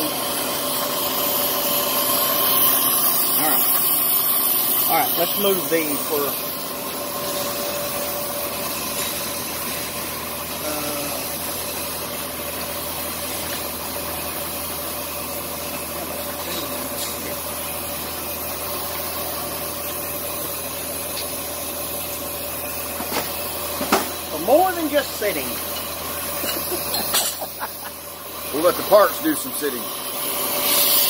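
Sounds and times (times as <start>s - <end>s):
machinery whine: 0.0s - 31.0s.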